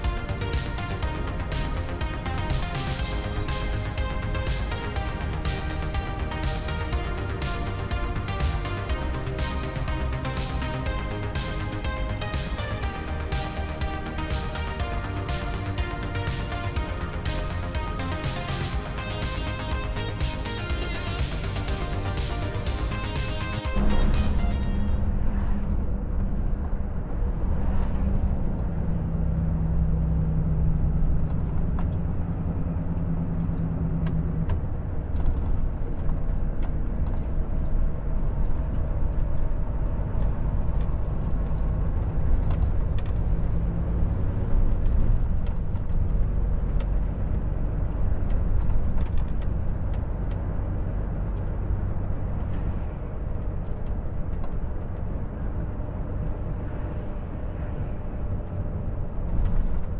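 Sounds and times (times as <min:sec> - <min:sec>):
road rumble: 0:00.0 - 0:59.9
truck diesel engine drone: 0:00.0 - 0:59.9.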